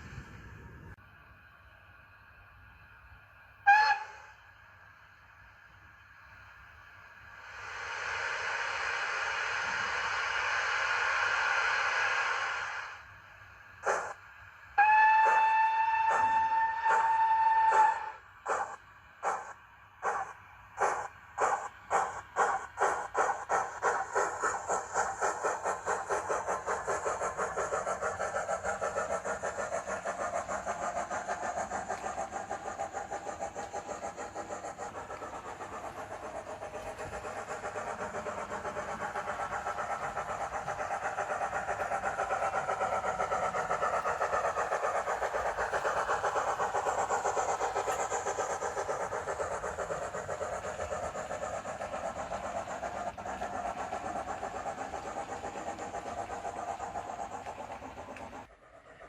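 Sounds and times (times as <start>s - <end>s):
model locomotive exhaust chuffs: 0.0s - 59.0s.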